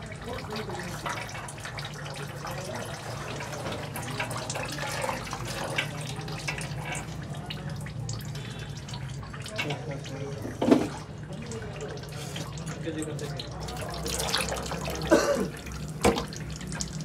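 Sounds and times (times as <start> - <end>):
oil trickling and dripping: 0.0 - 17.0.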